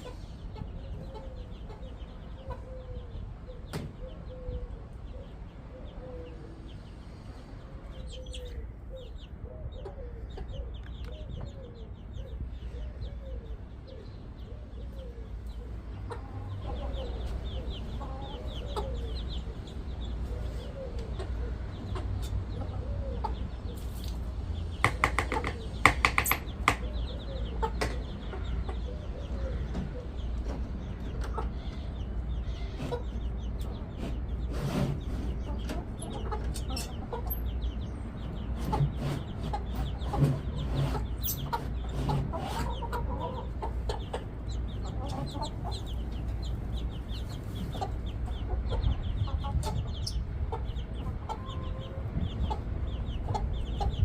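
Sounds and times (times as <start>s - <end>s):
chickens clucking: 0.0s - 54.0s
chickens squawking: 0.0s - 54.0s.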